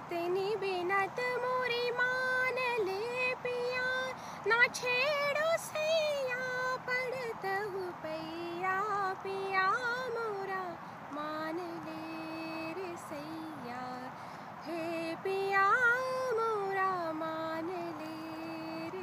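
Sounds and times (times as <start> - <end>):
woman singing unaccompanied: 0.0 - 19.0.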